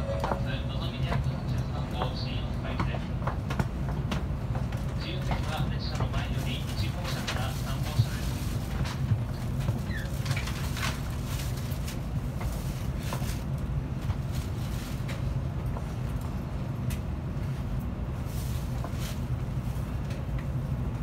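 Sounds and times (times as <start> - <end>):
train car hum and rumble: 0.0 - 21.0.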